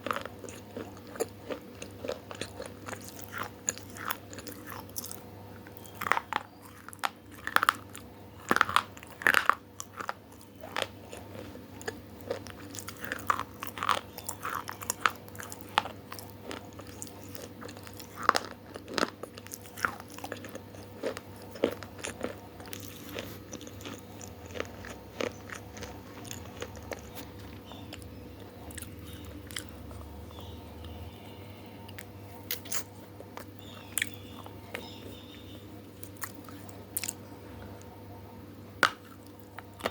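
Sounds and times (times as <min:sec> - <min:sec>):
person chewing crunchy food: 0:00.0 - 0:38.0, 0:38.8 - 0:39.9
faint steady hum: 0:00.0 - 0:39.9.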